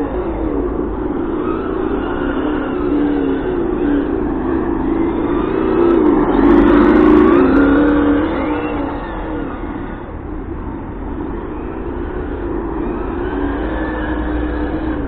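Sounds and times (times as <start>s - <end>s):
simulated engine revving: 0.0s - 15.0s.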